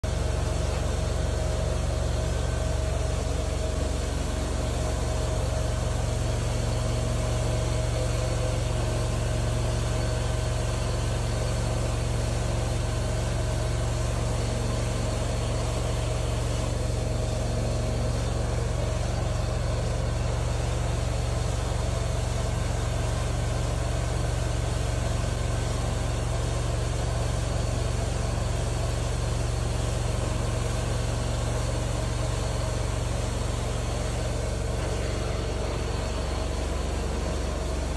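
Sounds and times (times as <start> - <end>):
carpet cleaner machine hum: 0.0 - 37.9.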